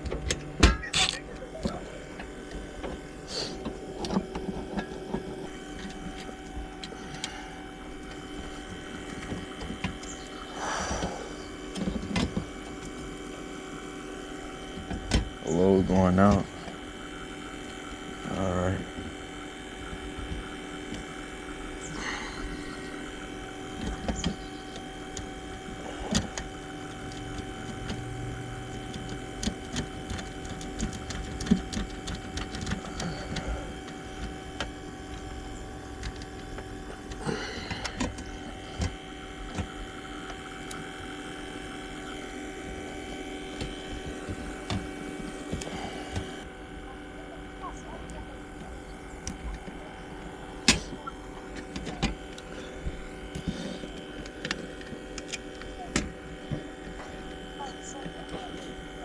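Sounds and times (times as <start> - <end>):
steady multi-tone hum: 0.0 - 59.0.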